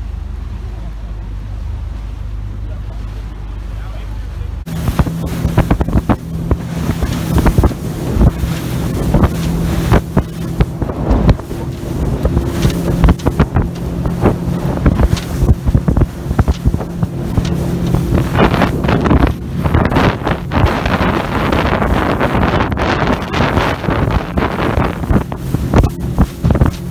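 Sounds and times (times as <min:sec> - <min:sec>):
boat motor droning: 0:00.0 - 0:26.9
wind buffeting microphone: 0:04.6 - 0:26.9.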